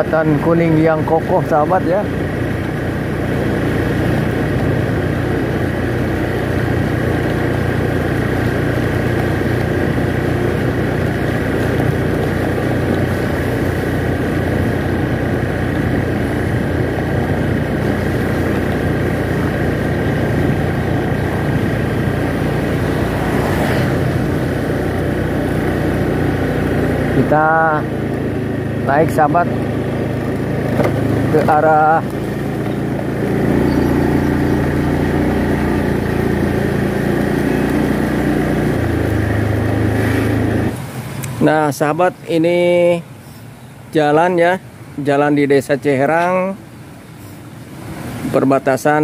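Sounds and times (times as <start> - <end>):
motorcycle engine running: 0.0 - 43.1.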